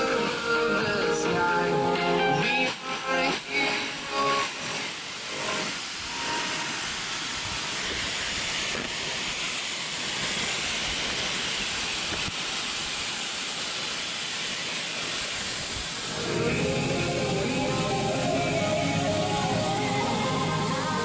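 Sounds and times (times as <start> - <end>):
speaker static hiss: 0.0 - 21.0.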